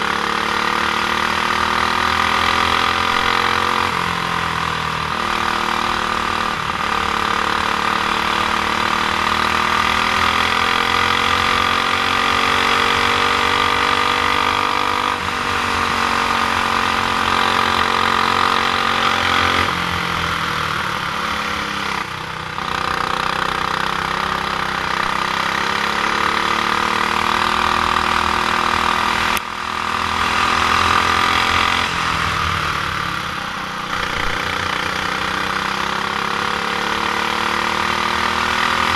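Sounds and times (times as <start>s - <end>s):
kart engine running: 0.0s - 38.9s.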